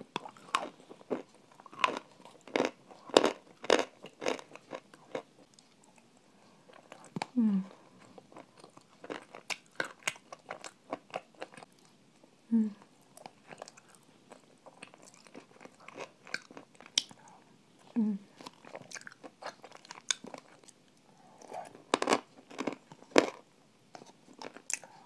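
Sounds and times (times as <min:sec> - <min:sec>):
crunching and chewing food: 0:00.0 - 0:12.3, 0:13.0 - 0:25.0.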